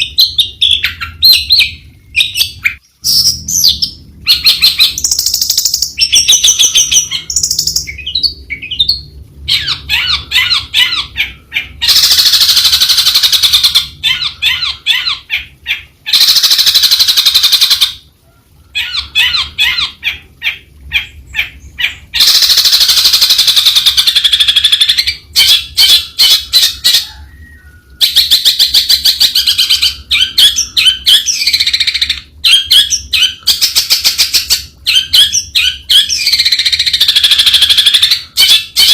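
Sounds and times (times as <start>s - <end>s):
bird singing varied song: 0.0s - 18.0s, 18.8s - 38.9s.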